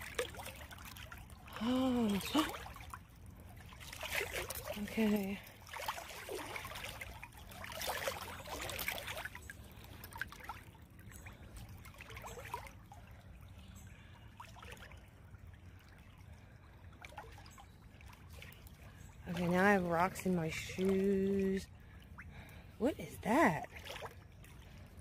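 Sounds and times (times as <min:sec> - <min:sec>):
water sloshing and splashing: 0:00.0 - 0:25.0
water trickling: 0:00.0 - 0:25.0.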